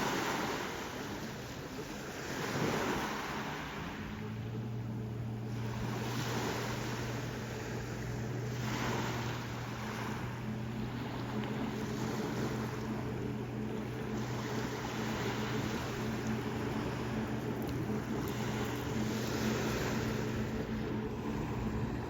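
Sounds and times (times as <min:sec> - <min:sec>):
low motor hum: 0:00.0 - 0:22.0
sea waves washing in: 0:00.0 - 0:22.0.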